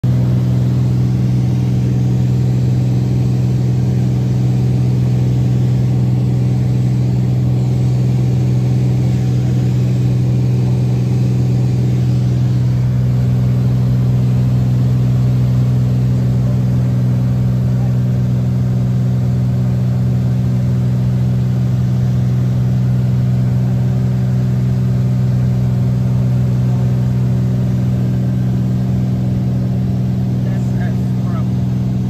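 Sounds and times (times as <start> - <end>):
propeller plane engine droning: 0.0 - 32.0.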